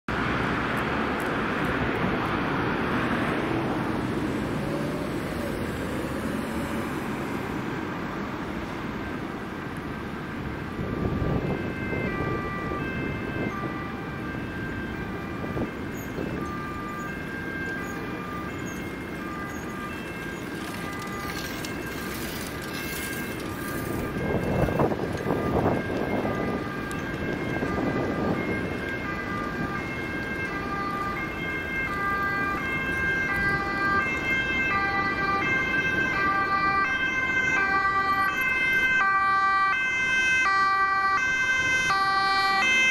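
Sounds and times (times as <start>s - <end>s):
road traffic: 0.0s - 42.9s
two-tone ambulance siren: 0.1s - 42.9s
vehicles passing: 0.1s - 42.9s.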